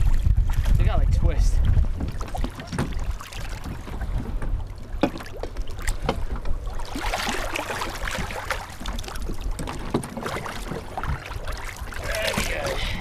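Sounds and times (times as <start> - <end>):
water slapping against hull: 0.0 - 13.0
wind rumble on microphone: 0.0 - 13.0
eel thrashing and splashing: 1.8 - 13.0.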